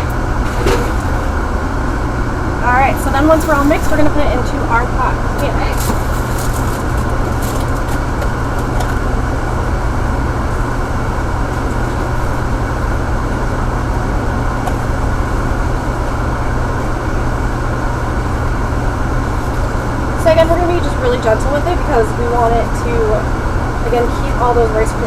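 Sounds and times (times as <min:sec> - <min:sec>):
kitchen ventilation hum: 0:00.0 - 0:25.0.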